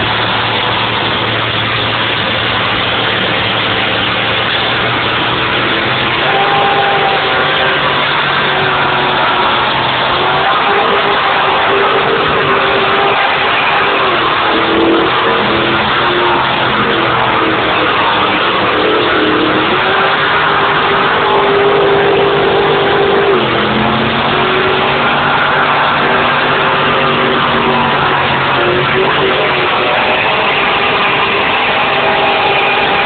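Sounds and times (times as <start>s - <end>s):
car engine revving high: 0.0s - 33.0s
tyres spinning: 0.0s - 33.0s.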